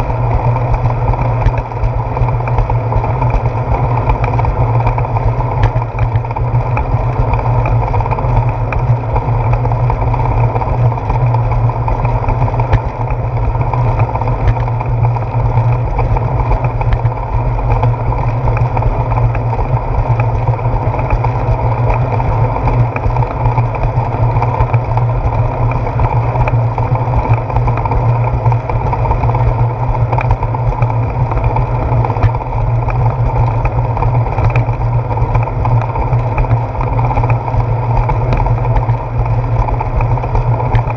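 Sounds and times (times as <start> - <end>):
bicycle tyres rumbling on concrete: 0.0 - 40.9.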